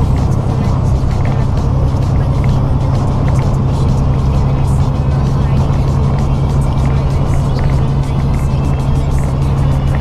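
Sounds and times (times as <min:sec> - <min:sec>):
music playing: 0:00.0 - 0:10.0
road noise: 0:00.0 - 0:10.0
truck engine drone: 0:00.0 - 0:10.0.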